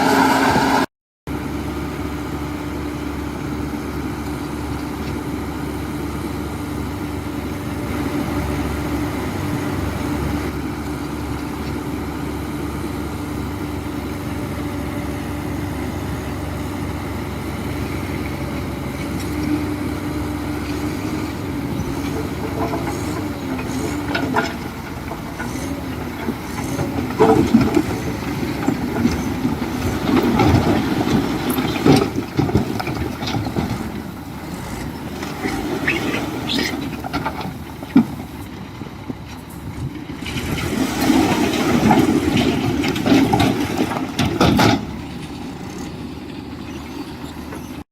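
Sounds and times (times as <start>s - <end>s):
diesel machinery running: 0.0s - 47.9s.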